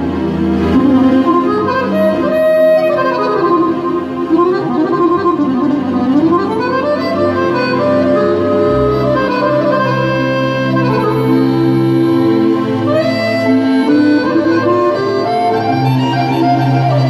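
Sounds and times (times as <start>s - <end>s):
accordion melody with bass notes: 0.0s - 17.0s.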